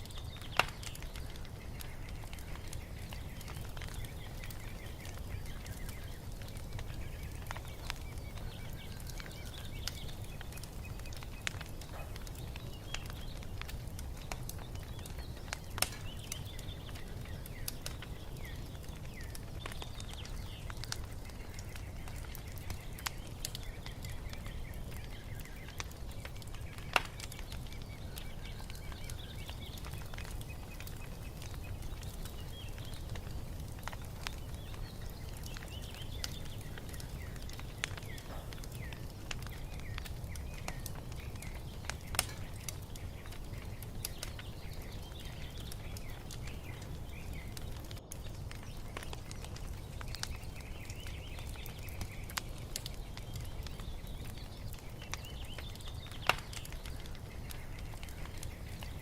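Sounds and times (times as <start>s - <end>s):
small birds chirping: 0.0s - 59.0s
wood fire crackling: 0.0s - 59.0s.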